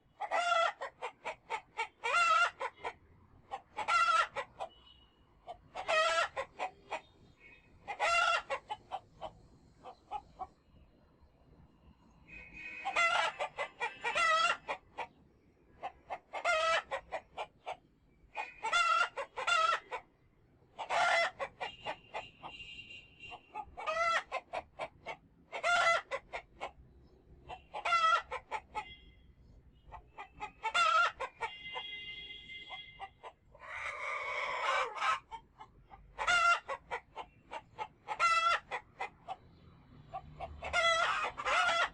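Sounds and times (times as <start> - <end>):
chickens calling: 0.0 - 4.8, 5.4 - 10.6, 12.4 - 15.2, 15.8 - 20.1, 20.7 - 22.6, 23.3 - 29.0, 29.9 - 32.0, 32.7 - 41.9.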